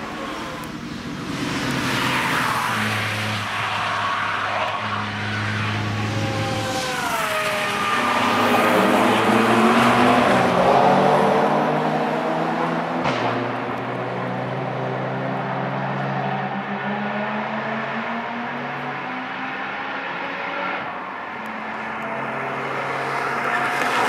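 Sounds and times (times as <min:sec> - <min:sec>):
car engine passing by: 0:00.1 - 0:24.0.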